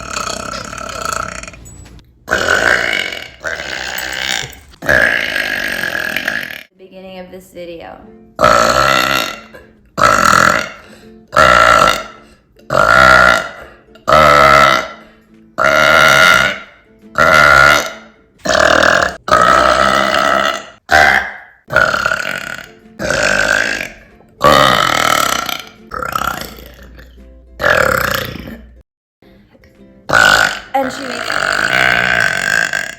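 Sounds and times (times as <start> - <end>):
woman burping loudly: 0.0 - 1.6, 2.3 - 6.7, 8.4 - 28.8, 30.1 - 32.9.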